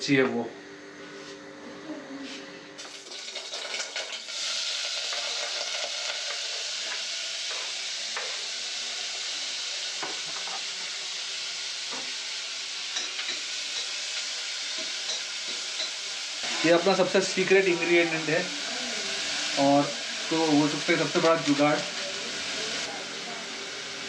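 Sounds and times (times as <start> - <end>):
vegetables sizzling in oil: 2.8 - 24.0.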